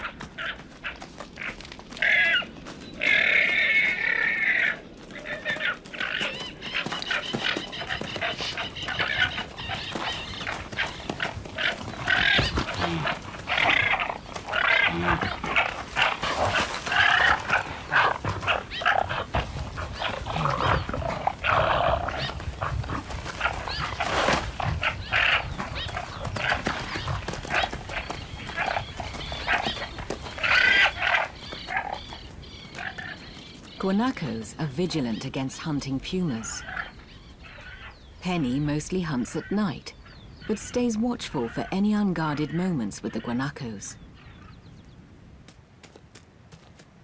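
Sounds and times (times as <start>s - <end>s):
guanacos calling: 0.0s - 44.6s.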